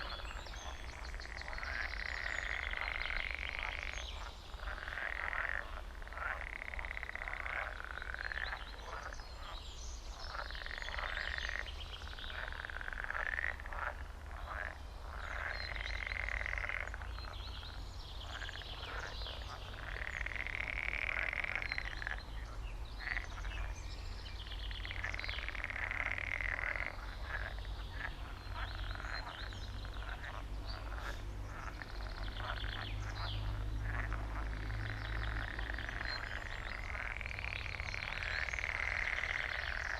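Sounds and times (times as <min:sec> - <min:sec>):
frogs croaking in trills: 0:00.0 - 0:39.9.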